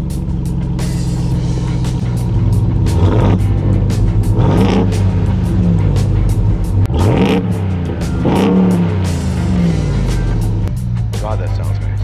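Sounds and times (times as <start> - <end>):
background music with steady beat: 0.0 - 12.0
engine revving: 0.0 - 12.0.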